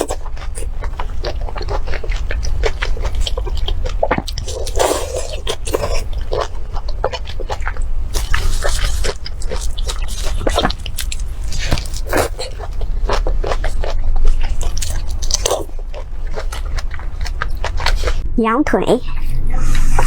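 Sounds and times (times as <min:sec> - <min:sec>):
food crunching: 0:00.0 - 0:18.2
person chewing food: 0:00.0 - 0:18.2
wet mouth sounds: 0:00.0 - 0:18.2.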